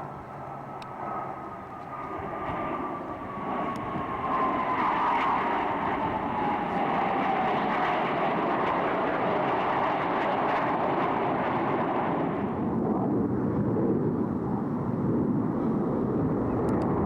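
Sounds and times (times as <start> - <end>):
jets roaring past: 0.0 - 17.0.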